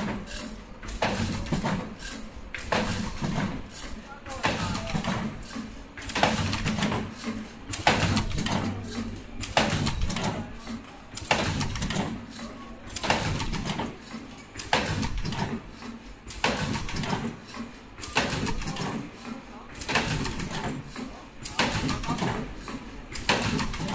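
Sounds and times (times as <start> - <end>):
machine clacking and rattling: 0.0 - 23.9.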